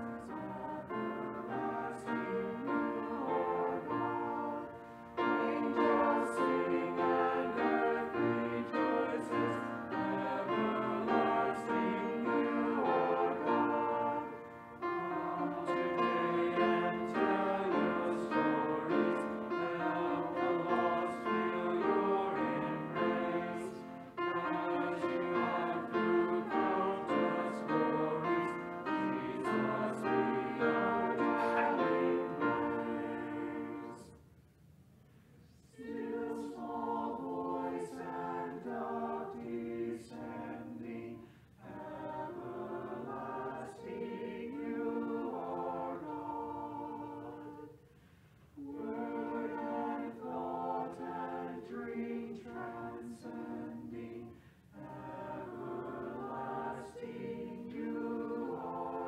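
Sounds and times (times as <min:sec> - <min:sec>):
choir singing a hymn: 0:00.0 - 0:34.2, 0:35.5 - 0:59.0.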